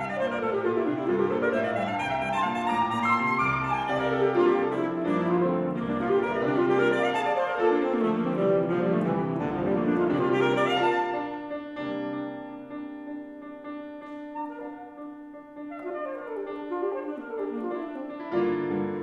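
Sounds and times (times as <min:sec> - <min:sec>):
alto saxophone: 0:00.0 - 0:13.0, 0:14.1 - 0:19.0
piano: 0:00.0 - 0:19.0.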